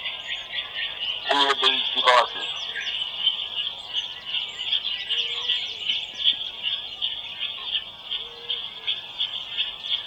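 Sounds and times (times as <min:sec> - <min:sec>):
recorded birdsong through speaker: 0:00.0 - 0:10.0.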